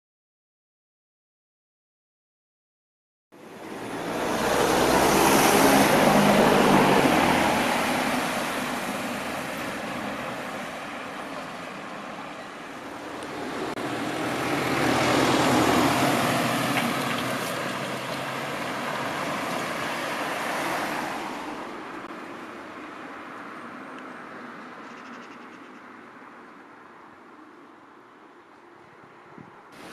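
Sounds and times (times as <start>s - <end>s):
vehicles passing by: 3.4s - 29.9s.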